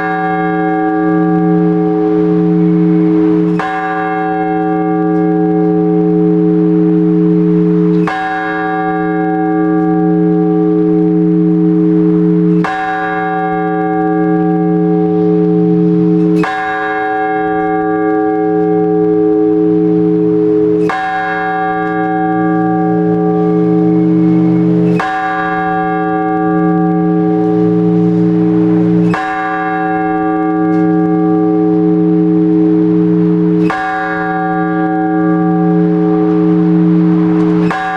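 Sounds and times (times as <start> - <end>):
large church bell tolling: 0.0 - 37.9.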